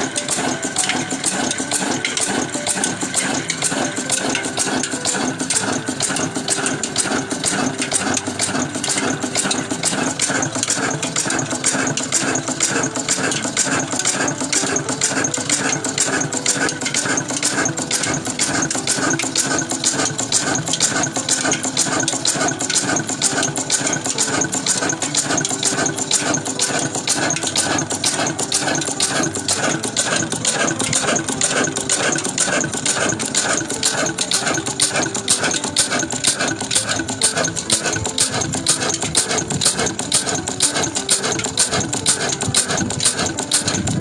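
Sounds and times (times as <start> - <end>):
water pump engine running: 0.0 - 44.0.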